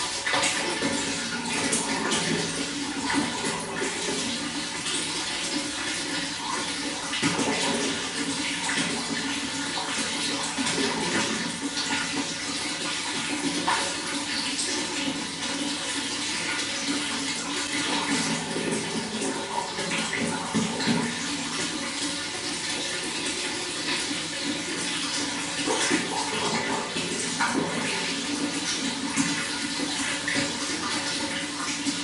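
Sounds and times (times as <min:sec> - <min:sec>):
running water with small splashes: 0:00.0 - 0:32.0.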